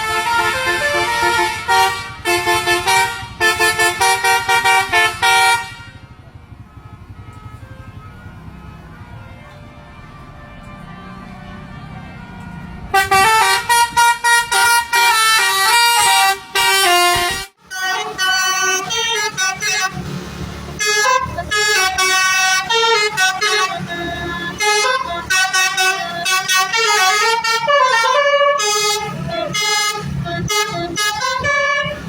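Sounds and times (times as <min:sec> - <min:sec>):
multi-tone bus horn tune: 0:00.0 - 0:32.0.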